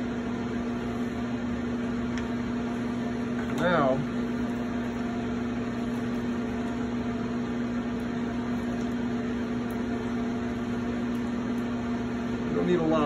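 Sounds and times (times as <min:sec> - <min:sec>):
potter's wheel motor hum: 0:00.0 - 0:13.0.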